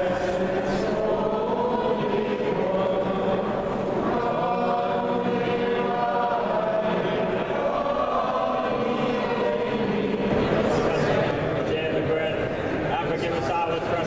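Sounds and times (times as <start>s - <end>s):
group chanting a prayer: 0.0s - 12.2s.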